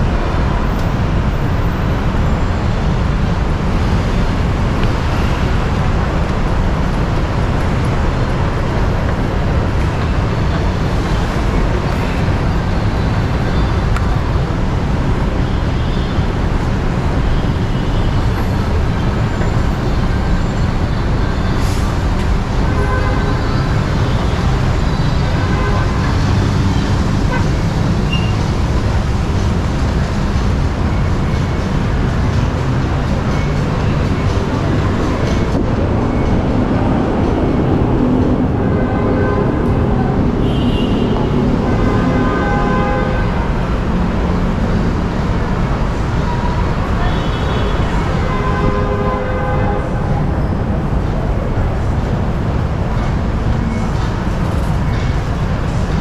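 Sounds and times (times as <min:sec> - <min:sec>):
city road traffic rumble: 0:00.0 - 0:56.0.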